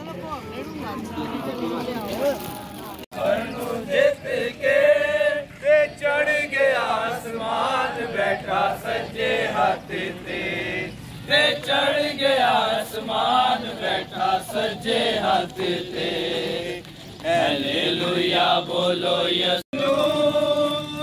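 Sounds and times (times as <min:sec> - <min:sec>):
group singing a hymn: 0:03.1 - 0:21.0.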